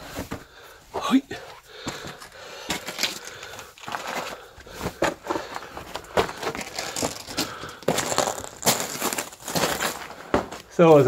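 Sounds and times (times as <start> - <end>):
rock and dirt crunching: 1.8 - 11.0
scuffs and knocks on rubble: 1.8 - 11.0.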